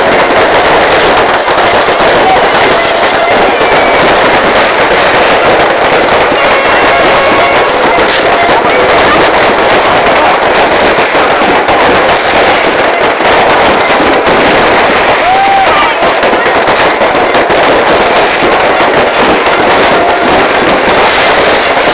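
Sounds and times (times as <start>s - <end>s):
fireworks crackling bangs: 0.0s - 21.9s.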